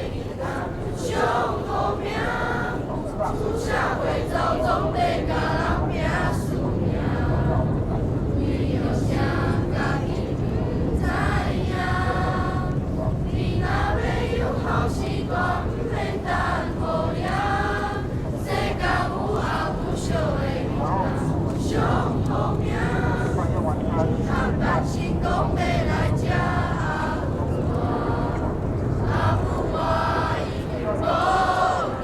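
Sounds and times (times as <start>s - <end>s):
choir singing: 0.0s - 32.0s
steady low hum: 0.0s - 32.0s.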